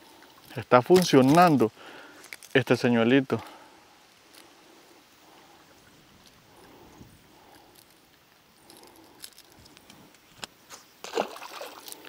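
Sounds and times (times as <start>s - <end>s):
light clicks of lure and hooks: 0.1s - 12.0s.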